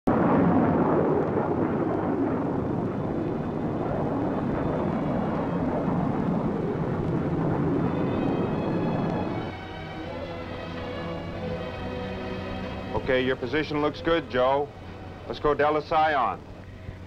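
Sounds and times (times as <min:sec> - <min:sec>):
jet engine noise: 0:00.1 - 0:17.0
rushing air: 0:00.1 - 0:17.0.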